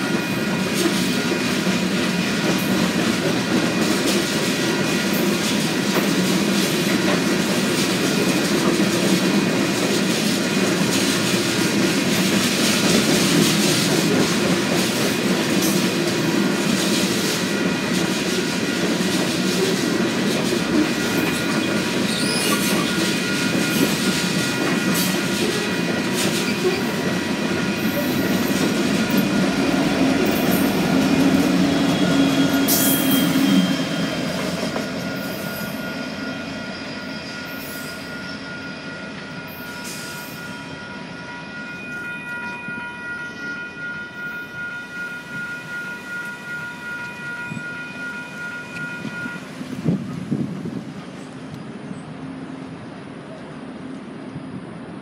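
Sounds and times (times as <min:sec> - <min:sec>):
crossing bells ringing: 0:00.0 - 0:50.1
train wheels rumbling on rails: 0:00.0 - 0:55.0.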